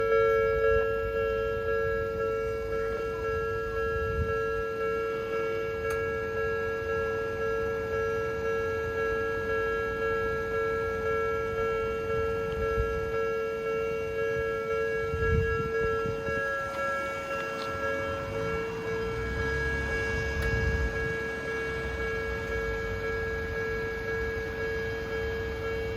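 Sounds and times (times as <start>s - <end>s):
level crossing alarm chime: 0.0s - 25.9s.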